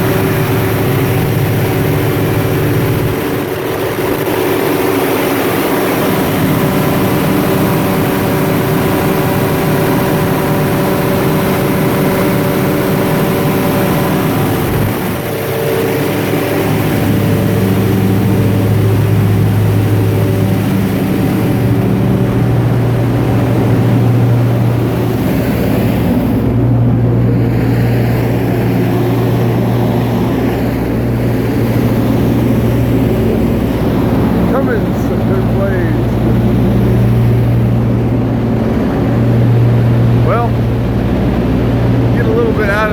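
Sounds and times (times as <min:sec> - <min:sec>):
deep hum: 0:00.0 - 0:42.9
diesel generator running: 0:00.0 - 0:42.9.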